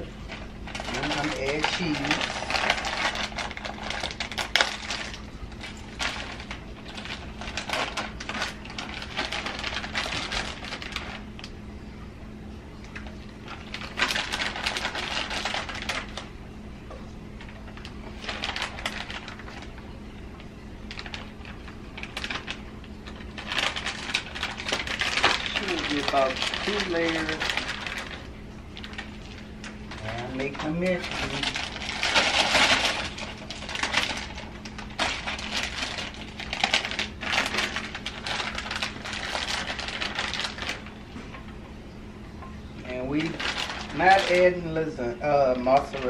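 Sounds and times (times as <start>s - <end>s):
plastic bag crinkling: 0.0s - 11.8s, 12.4s - 16.4s, 17.3s - 41.8s, 42.4s - 46.0s
faint steady hum: 0.0s - 46.0s.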